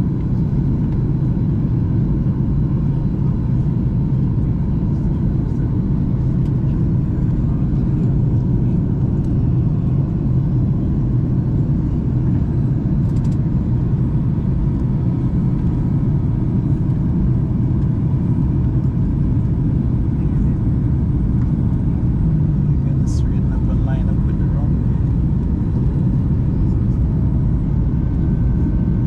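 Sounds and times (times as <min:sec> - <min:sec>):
jet airliner cabin drone: 0:00.0 - 0:29.0.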